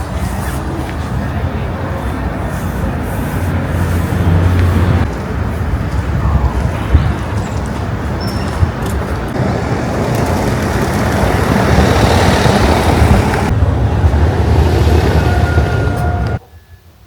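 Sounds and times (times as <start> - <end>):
moving vehicle rumble: 0.0 - 16.5.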